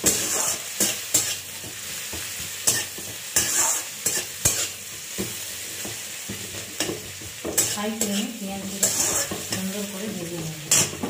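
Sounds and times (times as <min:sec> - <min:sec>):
metal spatula scraping pan: 0:00.0 - 0:02.0, 0:02.6 - 0:05.0, 0:05.8 - 0:11.0
onions sizzling in oil: 0:00.0 - 0:11.0.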